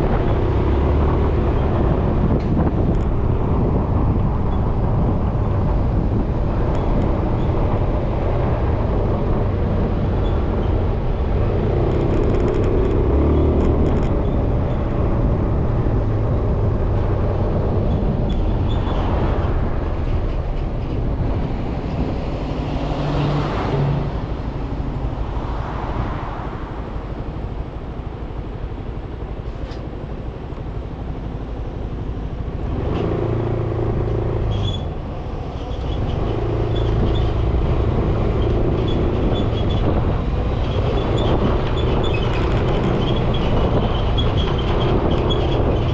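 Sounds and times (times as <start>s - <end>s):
road noise: 0.0s - 45.9s
wind noise: 0.0s - 45.9s.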